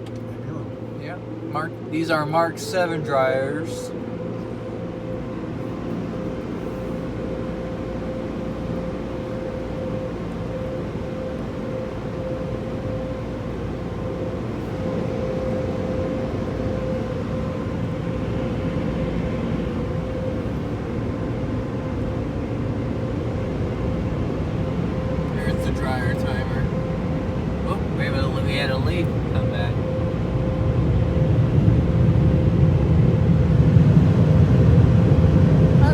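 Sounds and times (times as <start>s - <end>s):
car wash dryer blowers: 0.0s - 35.9s.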